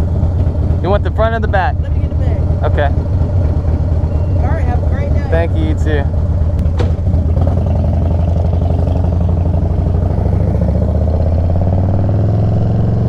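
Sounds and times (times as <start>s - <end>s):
motorcycle engine riding off: 0.0s - 13.0s.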